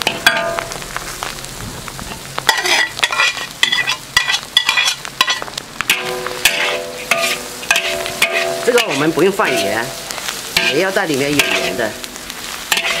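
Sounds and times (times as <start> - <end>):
hot oil sizzling: 0.0 - 13.0
spatula scraping a wok: 2.1 - 13.0.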